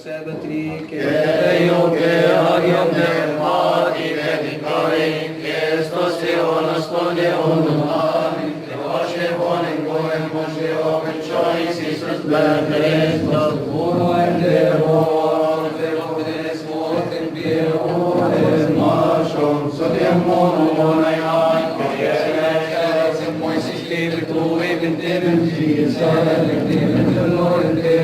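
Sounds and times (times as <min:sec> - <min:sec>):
man chanting a hymn: 0:00.0 - 0:28.0.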